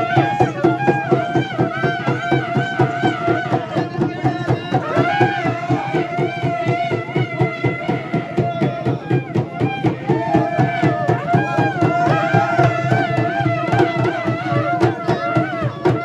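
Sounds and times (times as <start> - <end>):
fast dense drumming: 0.0 - 16.0.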